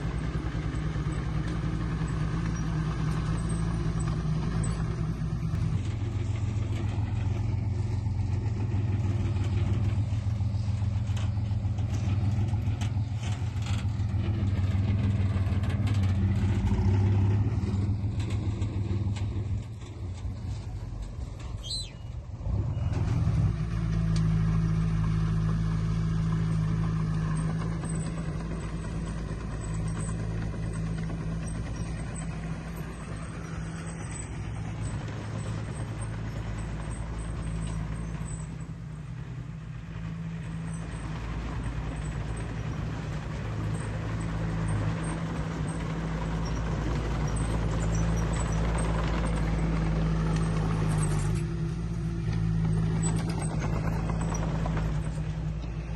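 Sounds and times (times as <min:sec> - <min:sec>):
heavy diesel engine under load: 0:00.0 - 0:55.9.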